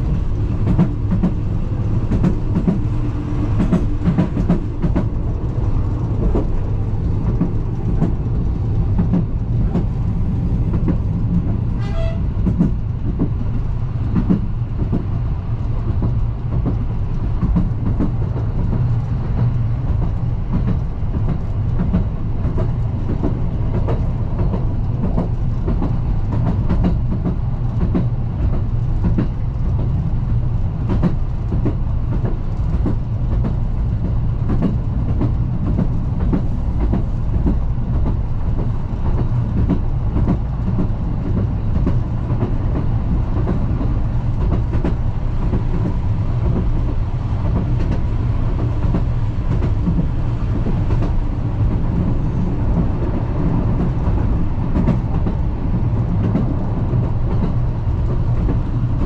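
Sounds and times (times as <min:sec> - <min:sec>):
railcar engine drone: 0:00.0 - 0:59.0
wheels clicking on track: 0:00.0 - 0:59.0.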